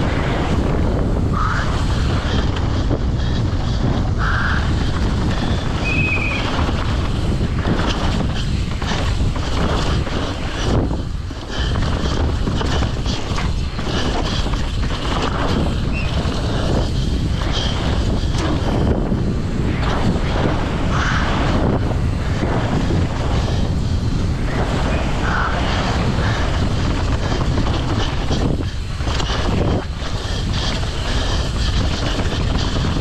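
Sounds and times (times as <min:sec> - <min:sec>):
bike knocking and rattling: 0:00.0 - 0:33.0
wind rushing over microphone: 0:00.0 - 0:33.0.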